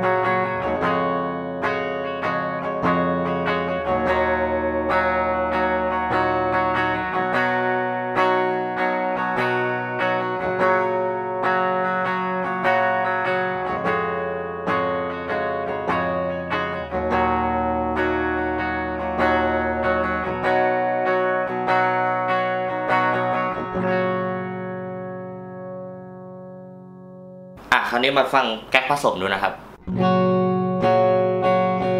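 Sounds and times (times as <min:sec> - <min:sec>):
clean electric guitar chords: 0:00.0 - 0:27.7, 0:29.7 - 0:31.9.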